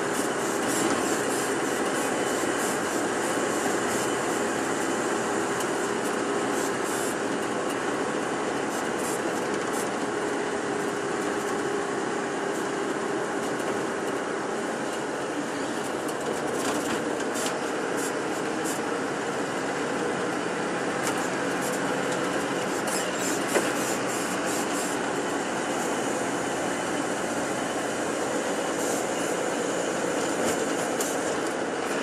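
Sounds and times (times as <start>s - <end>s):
bus engine and road noise: 0.0s - 32.0s.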